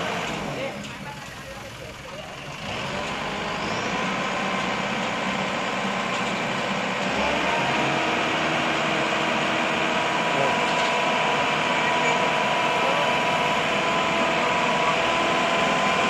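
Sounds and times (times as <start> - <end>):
crane engine running: 0.0 - 16.0.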